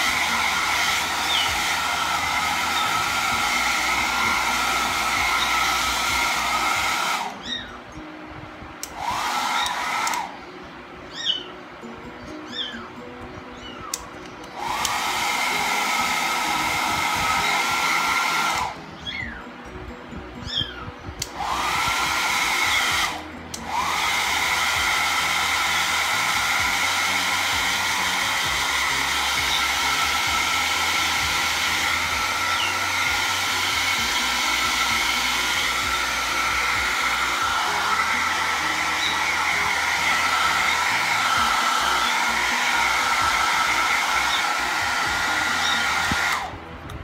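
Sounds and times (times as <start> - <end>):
hair dryer whining: 0.0 - 47.0.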